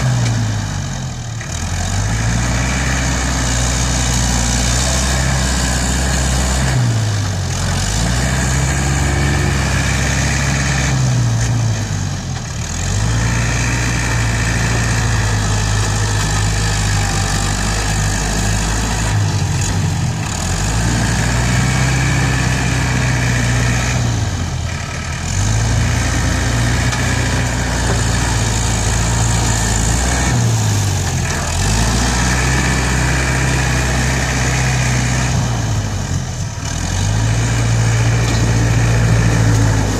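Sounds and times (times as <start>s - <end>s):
tractor diesel engine running hard: 0.0s - 39.9s.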